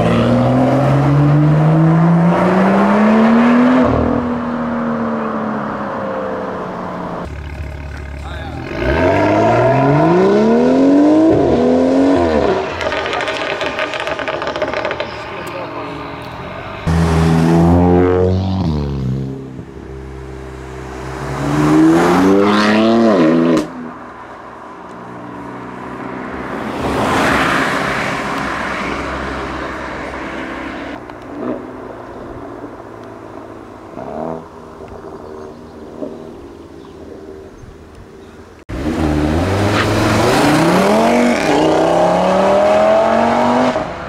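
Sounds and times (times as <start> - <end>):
car exhaust and road noise: 0.0 - 44.0
sports car engines revving: 0.0 - 44.0.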